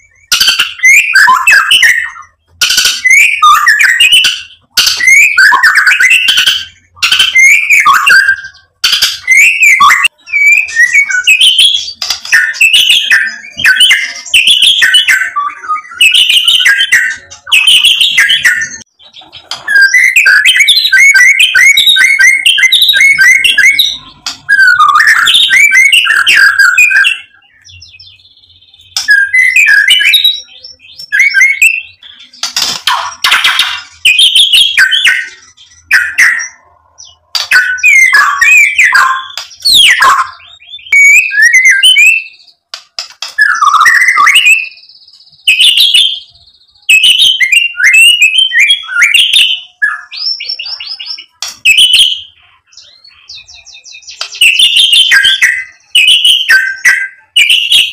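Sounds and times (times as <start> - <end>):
bird singing whistled phrases: 0.0 - 42.6, 43.3 - 57.9.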